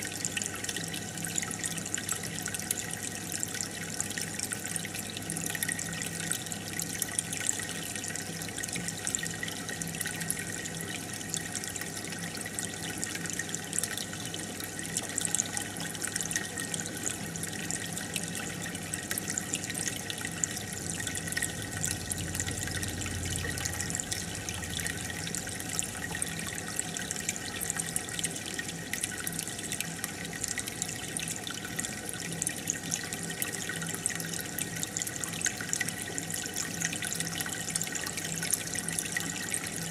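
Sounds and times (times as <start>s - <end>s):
aquarium water bubbling: 0.0s - 39.9s
faint pump hum: 0.0s - 39.9s.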